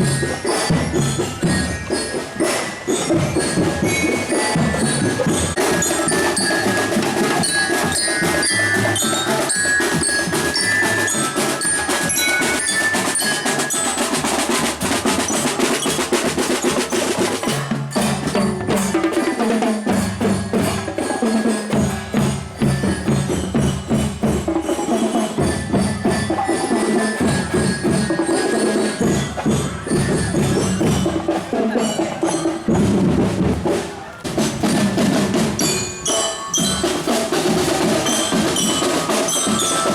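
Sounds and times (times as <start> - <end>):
mallet instrument melody: 0.0 - 33.8, 34.6 - 39.9
marching drums: 0.0 - 39.9.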